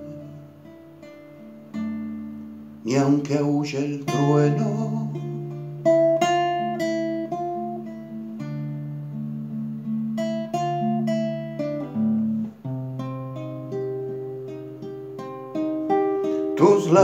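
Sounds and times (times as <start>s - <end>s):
classical guitar fingerstyle: 0.0s - 17.0s.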